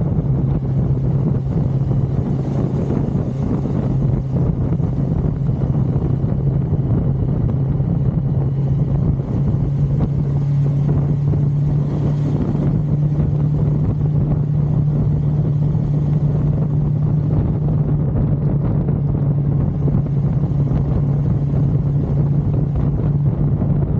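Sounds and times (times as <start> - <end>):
motorcycle engine running: 0.0 - 23.9
wind rushing over microphone: 0.0 - 23.9.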